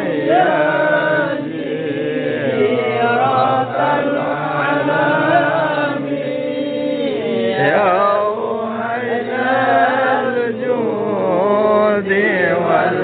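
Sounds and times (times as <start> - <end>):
men chanting devotional praise: 0.0 - 13.0.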